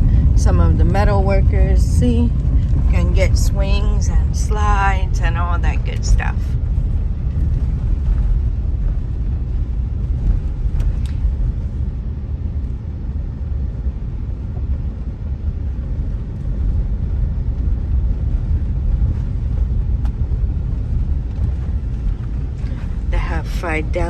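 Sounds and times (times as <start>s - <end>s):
car cabin road rumble: 0.0s - 24.0s.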